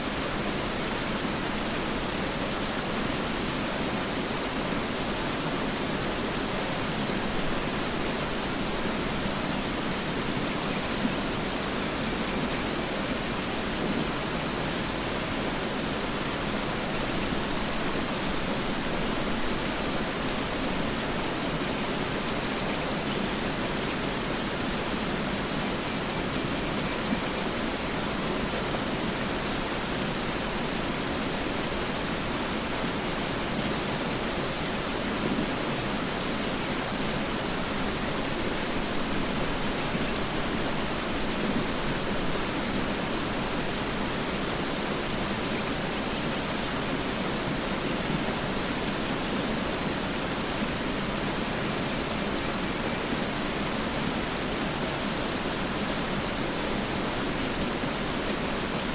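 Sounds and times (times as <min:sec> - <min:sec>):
river flowing: 0:00.0 - 0:58.9.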